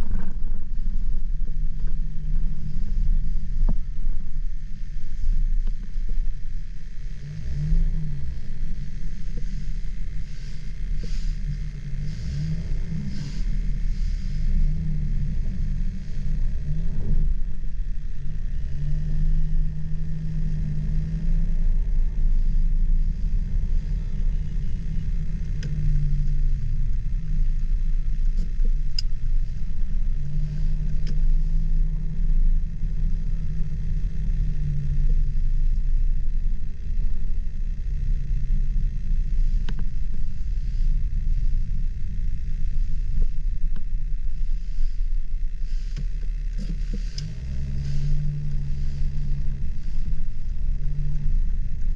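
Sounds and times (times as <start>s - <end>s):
faint ticks: 0.0s - 51.9s
road and engine rumble: 0.0s - 51.9s.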